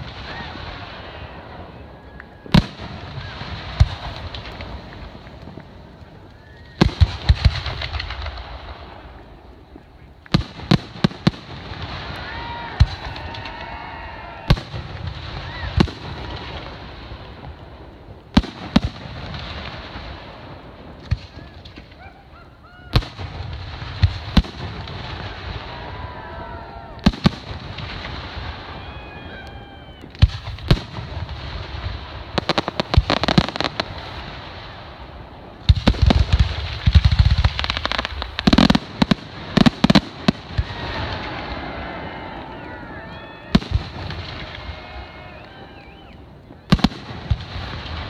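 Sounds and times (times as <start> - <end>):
fireworks bursting: 0.0 - 48.0
fireworks crackle: 0.0 - 48.0.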